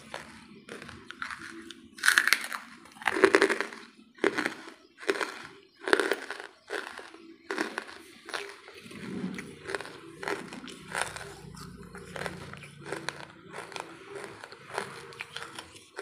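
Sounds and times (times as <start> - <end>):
charcoal crunching while chewed: 0.0 - 16.0.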